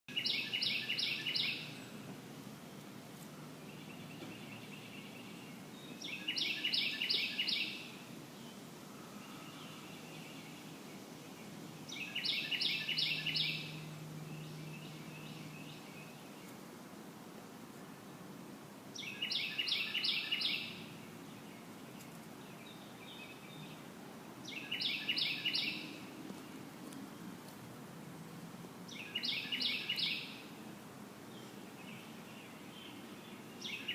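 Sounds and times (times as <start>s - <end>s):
songbird singing: 0.1s - 17.1s, 17.7s - 33.9s
low background noise: 0.1s - 33.9s
outdoor background noise: 0.1s - 33.9s.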